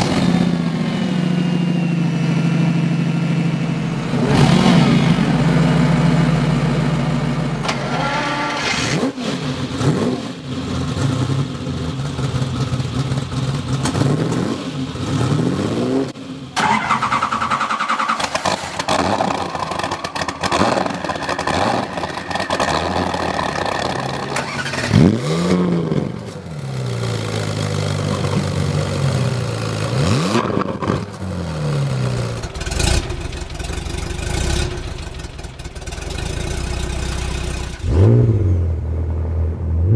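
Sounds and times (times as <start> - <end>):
car engines starting and revving: 0.0 - 39.9.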